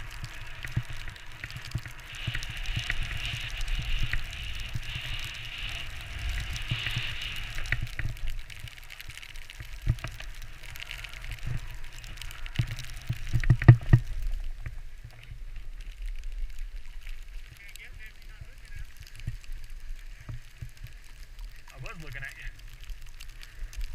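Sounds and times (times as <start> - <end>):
skis scraping over snow: 0.0 - 23.9.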